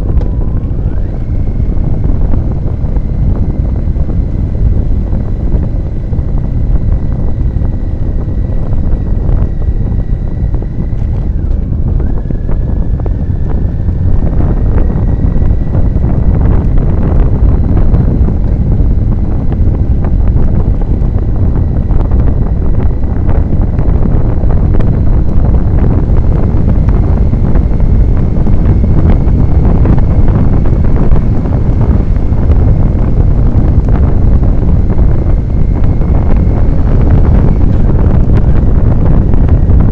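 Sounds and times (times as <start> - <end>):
motorcycle engine running: 0.0 - 39.9
thin high whine: 0.0 - 39.9
wind rushing over microphone: 0.0 - 39.9.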